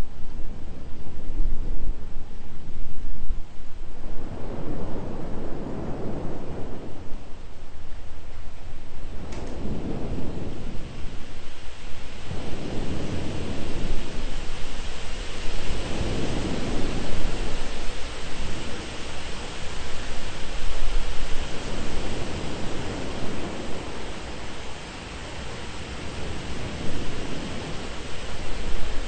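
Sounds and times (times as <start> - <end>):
deep low thunder rumble: 0.0 - 29.0
heavy rain hiss: 0.0 - 29.0.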